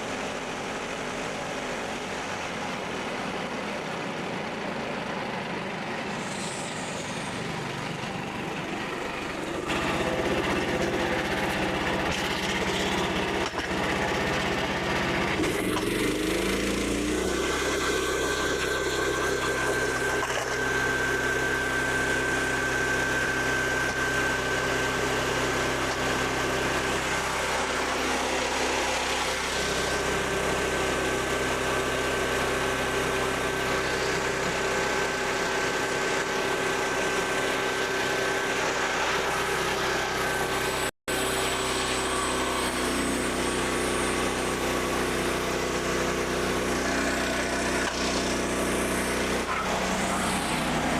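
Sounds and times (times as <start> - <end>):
small gasoline engine running: 0.0 - 50.9.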